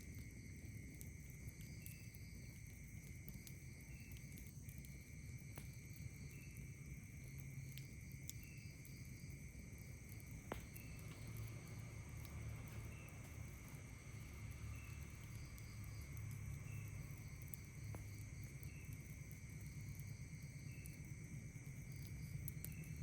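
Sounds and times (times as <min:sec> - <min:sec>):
campfire crackling and popping: 0:00.0 - 0:23.0
insect chirping: 0:00.0 - 0:23.0
night insects trilling: 0:00.0 - 0:23.0.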